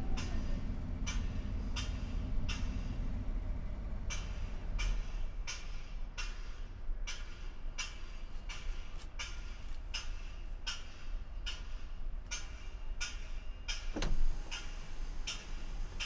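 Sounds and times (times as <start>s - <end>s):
vehicle idling rumble: 0.0s - 13.0s, 13.6s - 16.0s.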